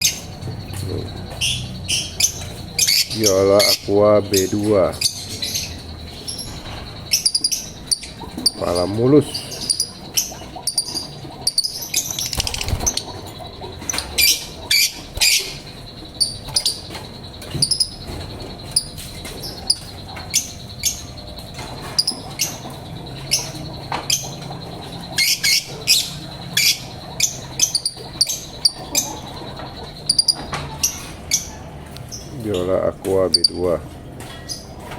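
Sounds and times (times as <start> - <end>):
lovebird chirping: 0.0 - 33.7.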